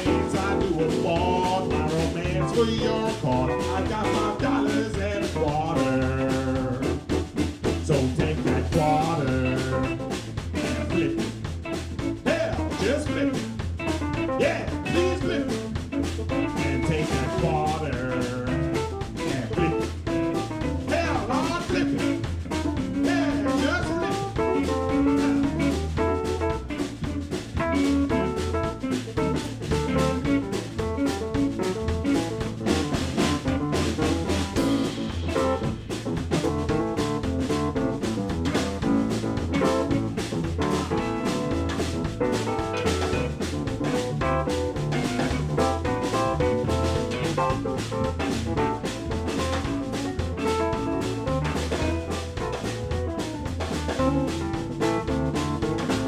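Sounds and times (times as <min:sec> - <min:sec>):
blues band playing: 0:00.0 - 0:56.0
drum kit beat: 0:00.0 - 0:56.0.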